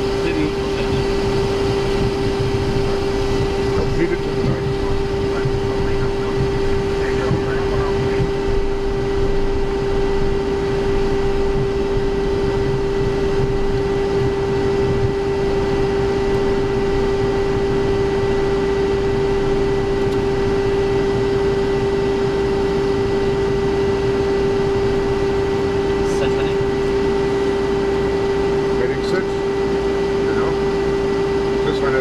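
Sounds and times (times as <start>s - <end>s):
jet engines running at low power: 0.0s - 32.0s.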